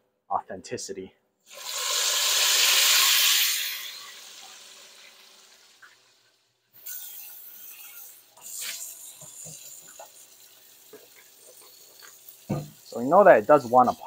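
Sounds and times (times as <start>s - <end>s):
hot oil sizzling and bubbling: 1.5s - 14.0s.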